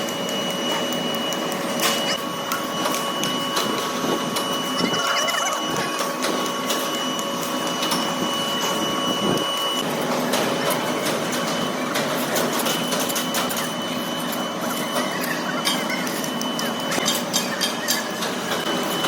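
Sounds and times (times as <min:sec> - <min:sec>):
machinery hum: 0:00.0 - 0:19.0
thin machine whine: 0:00.0 - 0:19.0.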